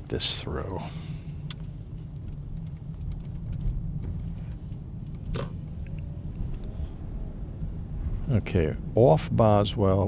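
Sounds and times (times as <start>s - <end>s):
car cabin rumble: 0.0s - 9.0s.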